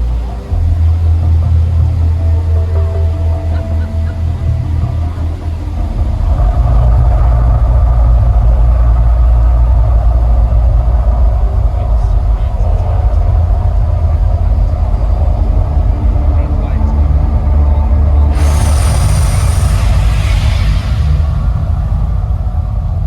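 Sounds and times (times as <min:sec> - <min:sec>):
deep eruption rumble: 0:00.0 - 0:23.0
faint sustained tones: 0:00.0 - 0:23.0.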